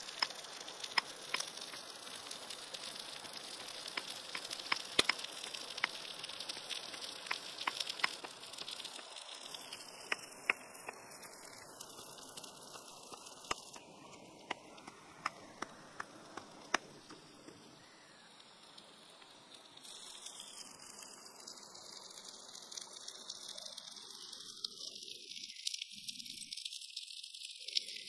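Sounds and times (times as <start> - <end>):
sharp pops and crackles: 0.0 - 28.0
shrimp sizzling on hot stone: 0.0 - 28.0.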